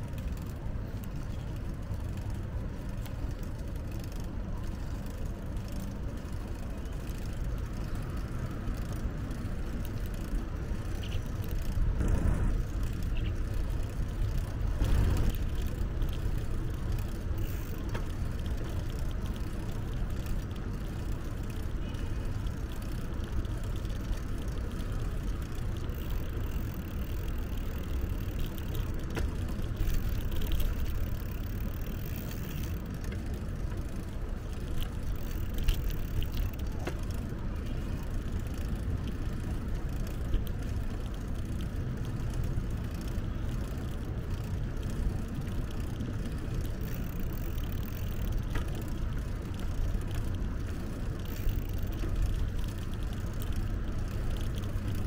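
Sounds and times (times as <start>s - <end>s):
bicycle tyres rolling: 0.0s - 55.0s
faint clicks and rattles: 0.0s - 55.0s.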